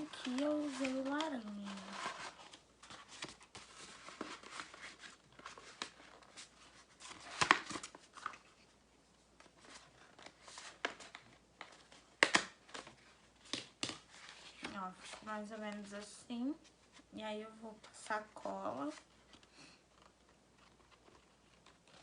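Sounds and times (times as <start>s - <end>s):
paper rustling and crinkling: 0.0s - 8.8s, 9.4s - 17.1s, 18.0s - 22.0s.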